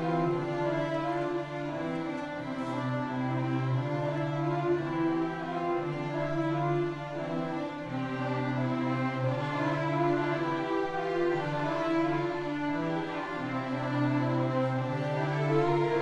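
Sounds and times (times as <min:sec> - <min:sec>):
string orchestra playing: 0:00.0 - 0:16.0.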